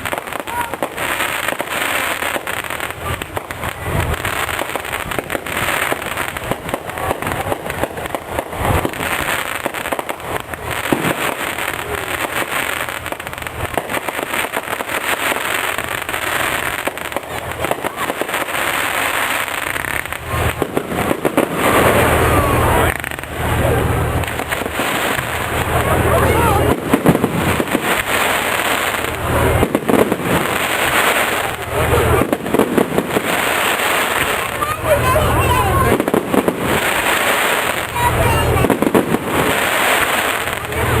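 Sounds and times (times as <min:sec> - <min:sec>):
fireworks crackling and popping: 0:00.0 - 0:41.0.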